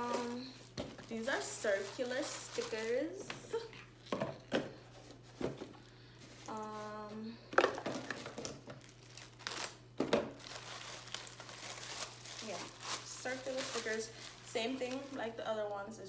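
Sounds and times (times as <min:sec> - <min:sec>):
plastic bag crinkling: 0:00.0 - 0:04.4, 0:06.2 - 0:15.9.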